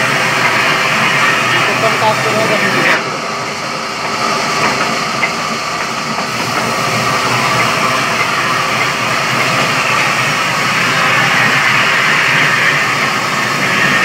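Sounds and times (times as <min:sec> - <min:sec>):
sawmill machinery running: 0:00.0 - 0:14.0.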